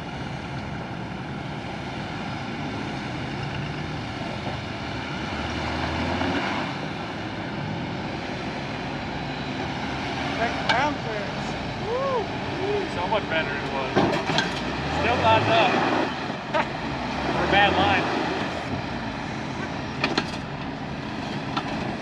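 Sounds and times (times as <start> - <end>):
off-road vehicle engine crawling: 0.0 - 22.0.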